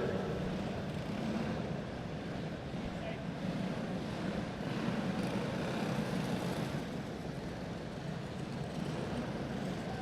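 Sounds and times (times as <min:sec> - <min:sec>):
small race car engines droning: 0:00.0 - 0:10.0.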